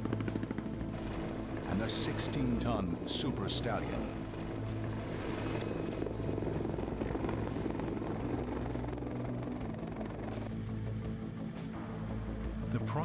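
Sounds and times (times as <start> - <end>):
helicopter rotors and engines droning: 0.0 - 13.0.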